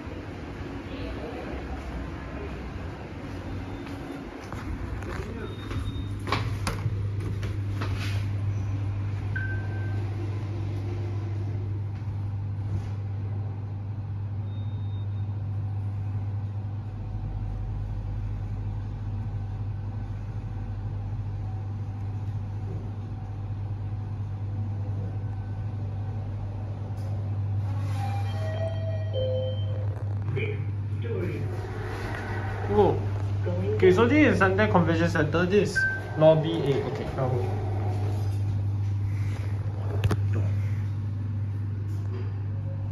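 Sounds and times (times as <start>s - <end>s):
lift car hum and rumble: 0.0s - 42.9s.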